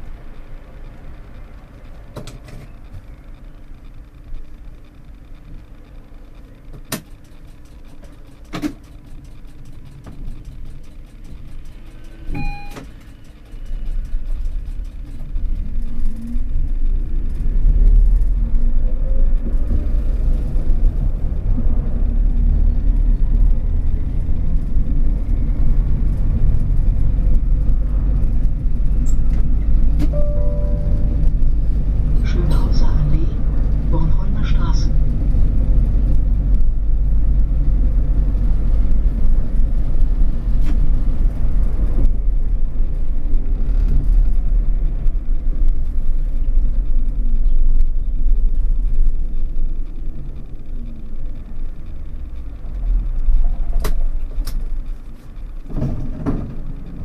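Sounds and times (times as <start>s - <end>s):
tram low hum: 0.0s - 57.0s
wheels rumbling on rails: 0.0s - 57.0s.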